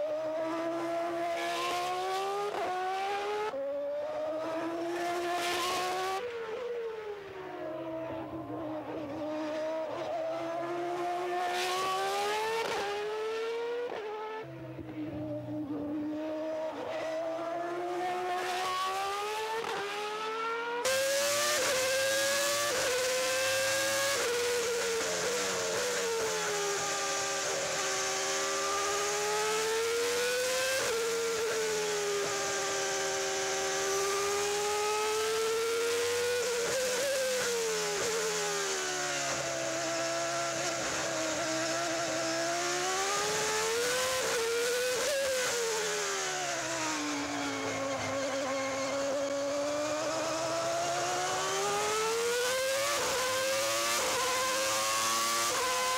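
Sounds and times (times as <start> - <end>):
racing car engine: 0.0 - 55.9.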